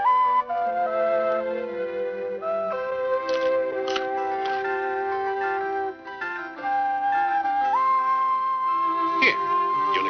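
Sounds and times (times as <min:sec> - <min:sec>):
instrumental cartoon music: 0:00.0 - 0:10.0.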